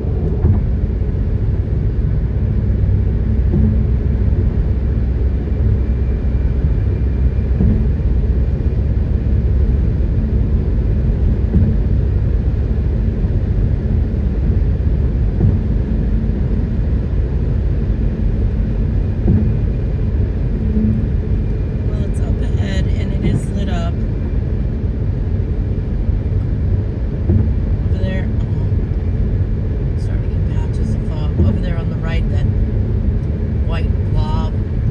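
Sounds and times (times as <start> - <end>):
vehicle engine rumble: 0.0 - 34.9.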